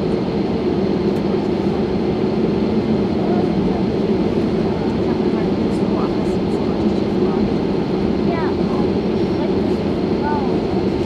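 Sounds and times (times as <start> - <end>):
jet airliner rumble: 0.0 - 11.0.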